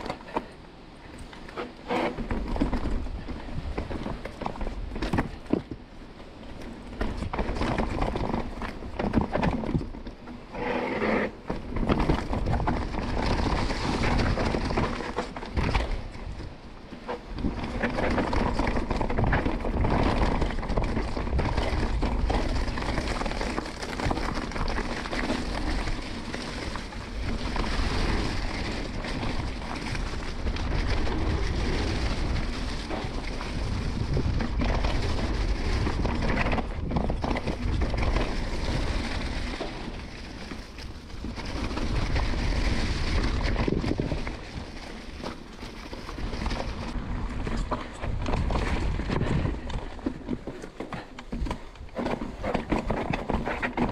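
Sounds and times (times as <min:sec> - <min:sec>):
bike tyres on dirt and rocks: 0:00.0 - 0:53.9
wind rumble on microphone: 0:00.0 - 0:53.9
bike rattling and knocking: 0:01.4 - 0:10.4, 0:11.4 - 0:53.9.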